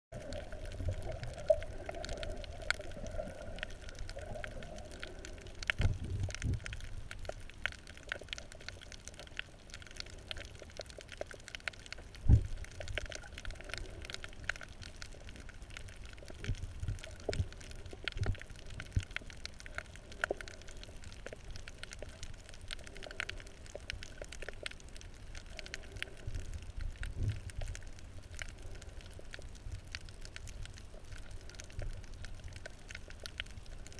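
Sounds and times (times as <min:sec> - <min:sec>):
muffled underwater water wash: 0:00.1 - 0:33.9
underwater clicks and crackles: 0:00.1 - 0:33.9.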